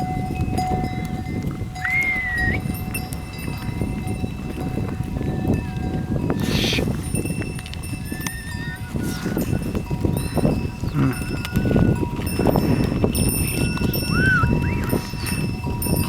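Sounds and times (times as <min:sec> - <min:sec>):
animal bells ringing: 0:00.0 - 0:16.0
animals clattering and rumbling: 0:00.0 - 0:16.0.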